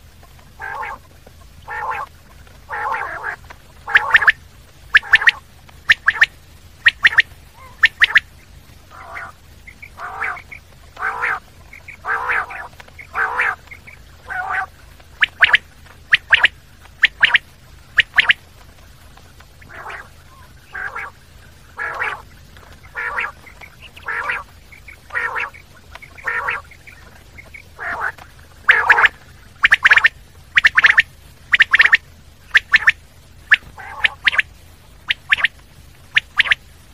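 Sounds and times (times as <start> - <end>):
quail low rough calls: 0.0 - 36.7.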